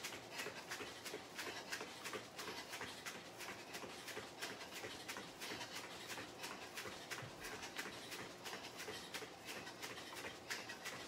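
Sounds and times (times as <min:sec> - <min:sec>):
bare feet on foam mat: 0:00.0 - 0:11.0.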